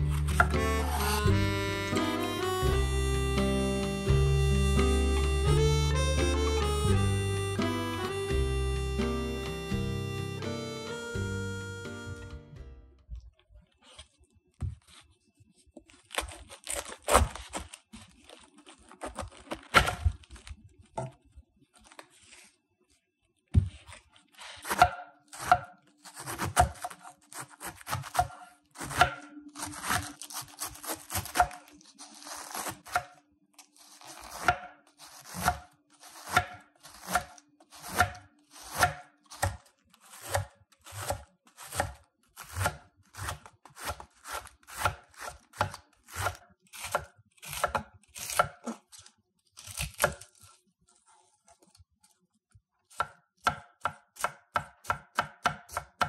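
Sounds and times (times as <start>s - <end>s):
knife slicing cabbage: 0.0s - 9.9s, 15.8s - 20.6s, 23.5s - 51.8s, 52.9s - 56.0s.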